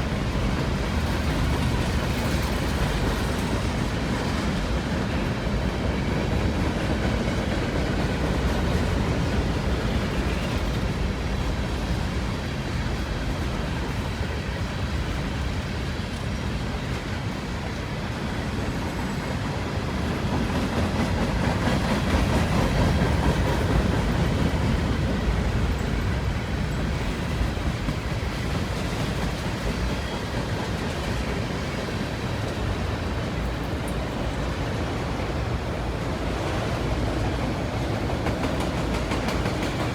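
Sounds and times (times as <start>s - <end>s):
freight train wheels rumbling: 0.0s - 39.9s
wheels clickety-clack: 0.0s - 39.9s.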